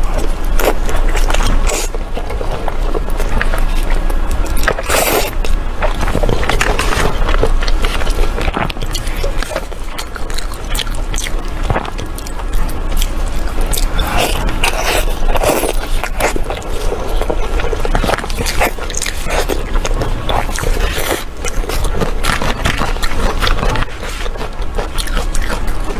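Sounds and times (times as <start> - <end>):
person chewing crunchy food: 0.0 - 25.9.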